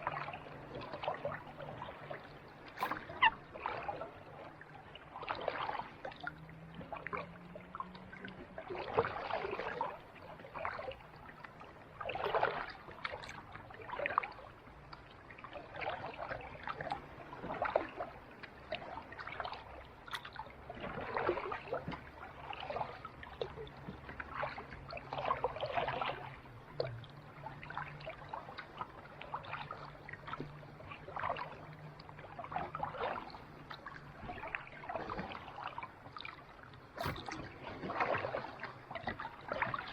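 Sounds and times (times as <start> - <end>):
kayak paddle splashing: 0.0 - 39.9.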